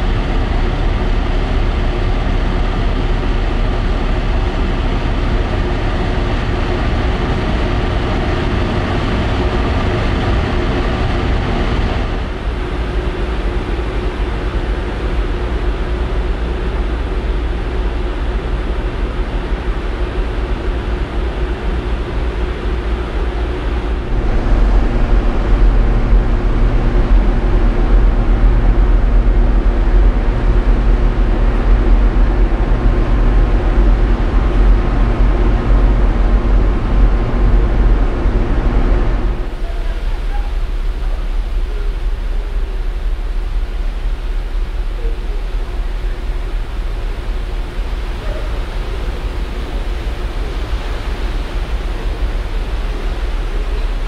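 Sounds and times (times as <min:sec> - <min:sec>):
ferry engine and machinery hum: 0:00.0 - 0:54.0
wind and sea rushing: 0:00.0 - 0:54.0.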